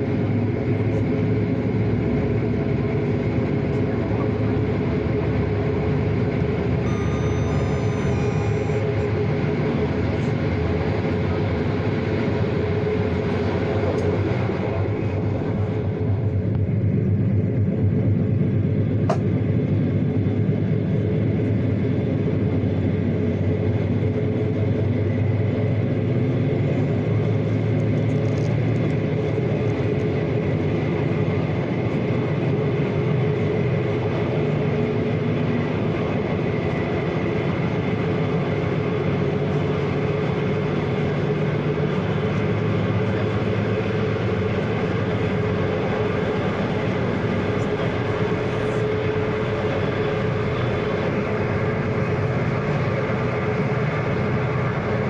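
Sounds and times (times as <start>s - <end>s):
constant hum: 0.0s - 55.0s
train wheels rumbling on rails: 0.0s - 55.0s.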